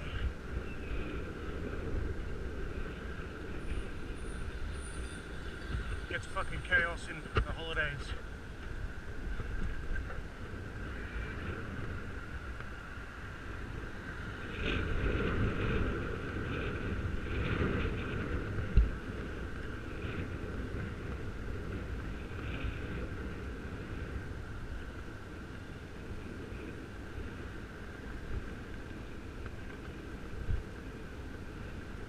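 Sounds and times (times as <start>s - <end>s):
low road rumble: 0.0s - 32.0s
wind rushing over microphone: 0.0s - 32.0s.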